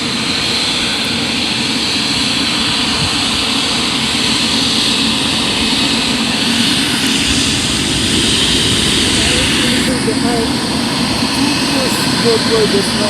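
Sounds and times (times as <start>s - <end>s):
airliner engines rushing: 0.0s - 13.0s.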